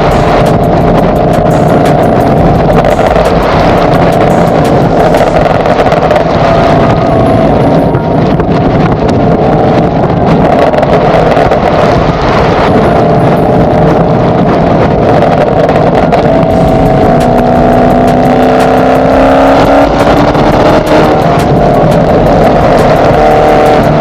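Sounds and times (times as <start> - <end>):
car engine through exhaust: 0.0 - 24.0.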